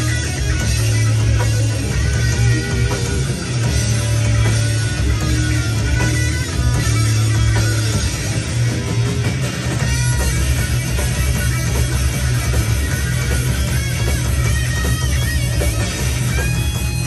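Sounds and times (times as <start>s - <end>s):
bass guitar: 0.0s - 17.0s
drums: 0.0s - 17.0s
heavy electric guitars: 0.0s - 17.0s.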